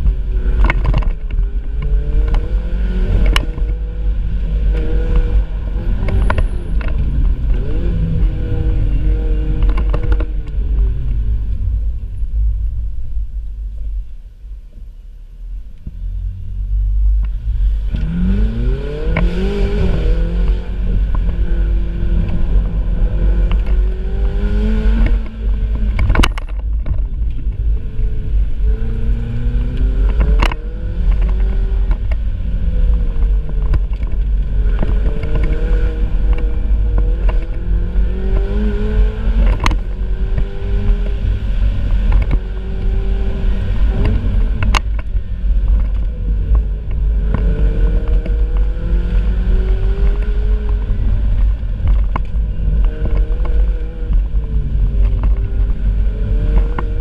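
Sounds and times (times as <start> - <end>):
sports car engine revving: 0.0 - 11.6, 16.8 - 57.0
heavy low rumble: 0.0 - 57.0.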